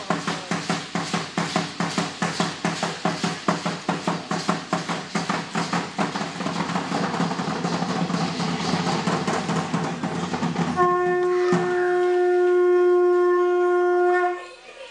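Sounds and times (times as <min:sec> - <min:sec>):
drum beat: 0:00.0 - 0:13.6.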